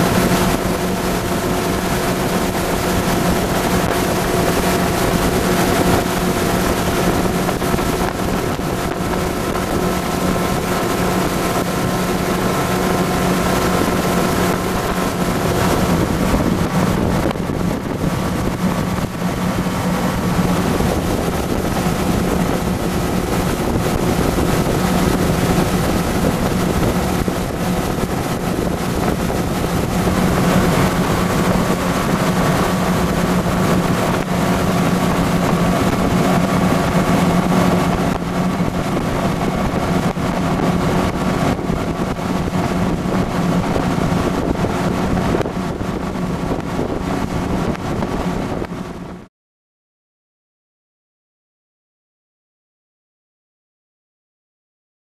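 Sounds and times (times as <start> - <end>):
water rushing: 0.0 - 49.2
outboard motor running: 0.0 - 49.3
wind on microphone: 0.0 - 49.3.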